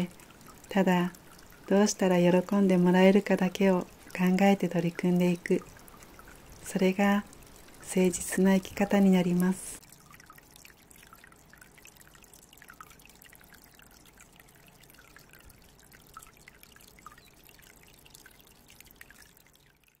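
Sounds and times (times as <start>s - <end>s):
water drops plinking: 0.0s - 19.7s
water dripping and trickling: 0.0s - 20.0s.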